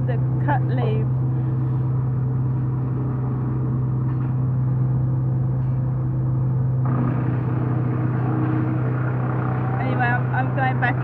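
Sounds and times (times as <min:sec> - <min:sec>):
machine engine running steadily: 0:00.0 - 0:11.0.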